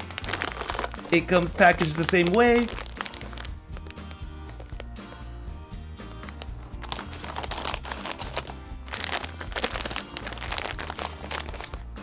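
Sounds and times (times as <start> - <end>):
plastic packaging crinkling: 0.0 - 4.9, 6.2 - 11.9
background music: 0.0 - 12.0.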